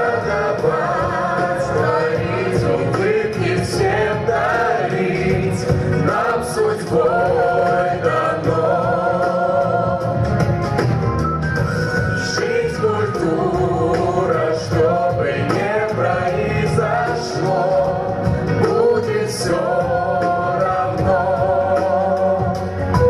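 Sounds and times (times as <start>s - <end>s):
men's voices singing: 0.0s - 10.4s, 12.2s - 23.0s
instrumental accompaniment: 0.0s - 23.0s.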